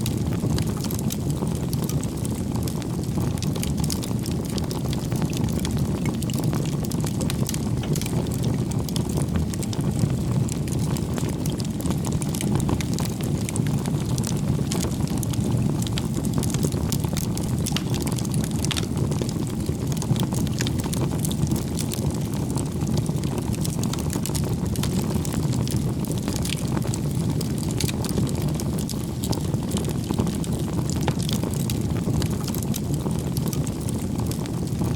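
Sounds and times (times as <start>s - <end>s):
campfire flames rushing: 0.0s - 34.9s
fire crackling and popping: 0.0s - 34.9s.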